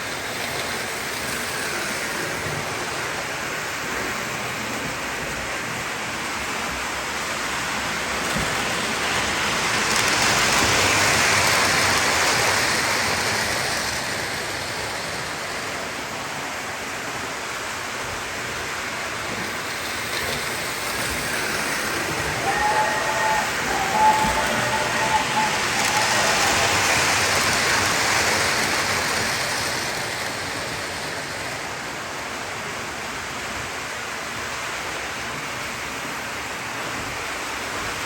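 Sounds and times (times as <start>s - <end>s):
model train rolling on track: 0.0s - 38.0s.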